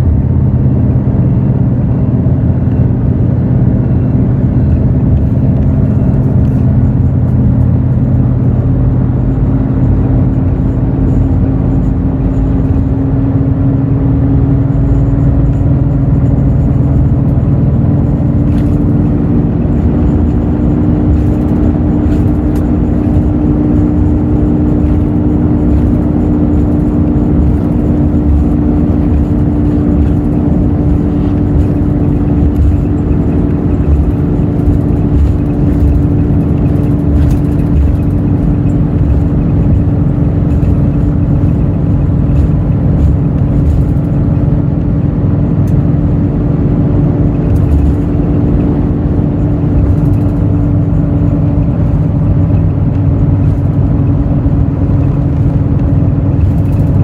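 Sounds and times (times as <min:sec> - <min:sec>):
bus diesel engine running: 0:00.0 - 0:57.0
low road rumble: 0:00.0 - 0:57.0.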